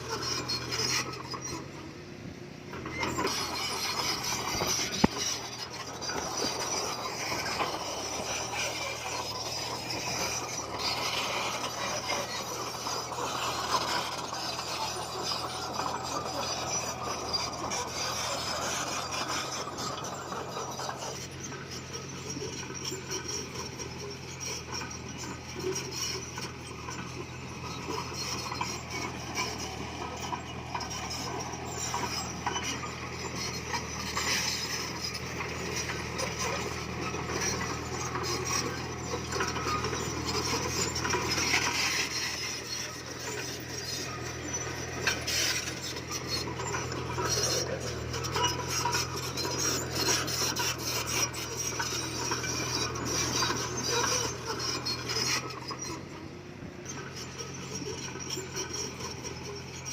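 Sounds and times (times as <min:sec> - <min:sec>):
bulldozer diesel engine running: 0:00.0 - 0:59.9
steel tracks grinding and clinking: 0:00.0 - 0:59.9.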